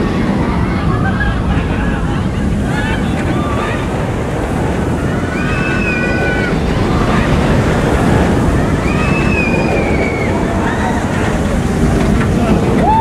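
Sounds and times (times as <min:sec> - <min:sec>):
riders screaming: 0:00.0 - 0:13.0
roller coaster on steel track: 0:00.0 - 0:13.0.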